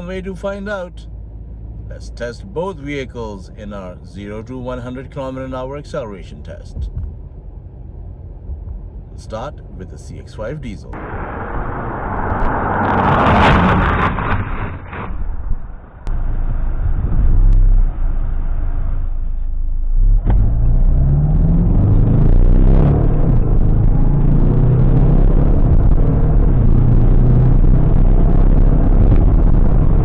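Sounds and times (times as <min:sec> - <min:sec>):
diesel car engine accelerating: 0:00.0 - 0:30.0.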